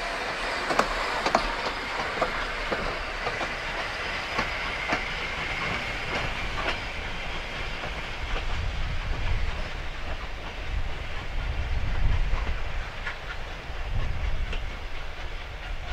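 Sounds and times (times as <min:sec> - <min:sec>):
train rumbling along track: 0:00.0 - 0:15.9
wheels clicking over rail joints: 0:00.0 - 0:15.9.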